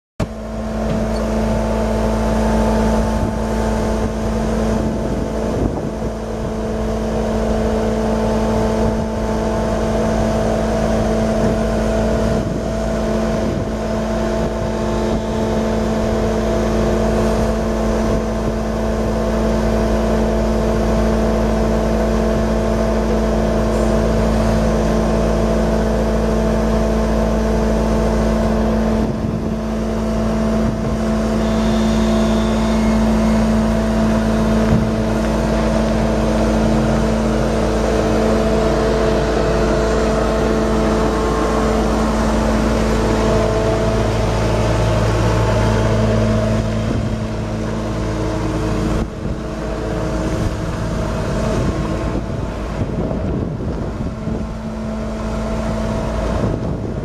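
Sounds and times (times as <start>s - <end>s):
diesel engine droning: 0.2s - 57.0s.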